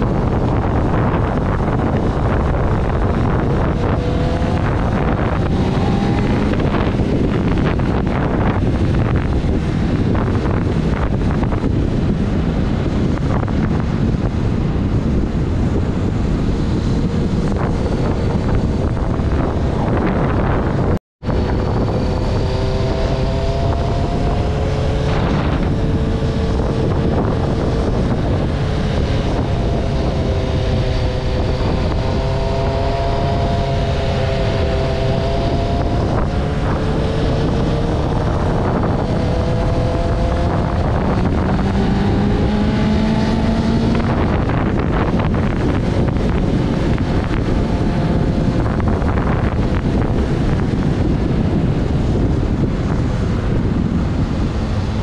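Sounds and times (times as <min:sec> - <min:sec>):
motorcycle engine cruising: 0:00.0 - 0:55.0
wind buffeting on microphone: 0:00.0 - 0:55.0.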